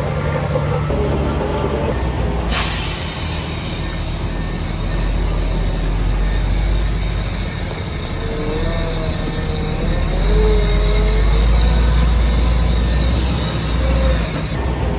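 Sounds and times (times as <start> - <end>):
heavy diesel machinery running: 0.0 - 14.9
loud hiss: 2.5 - 14.6.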